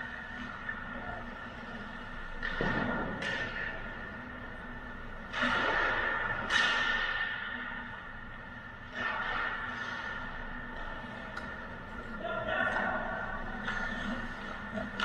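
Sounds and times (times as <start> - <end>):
steady hum with high whine: 0.0 - 15.0.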